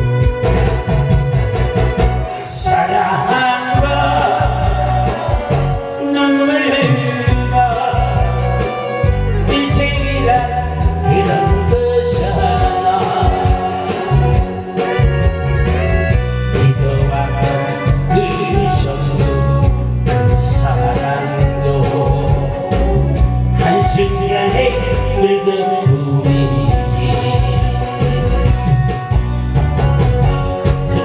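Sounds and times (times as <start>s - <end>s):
backing track with steady beat: 0.0s - 31.0s
person singing: 1.9s - 15.8s, 16.5s - 29.3s.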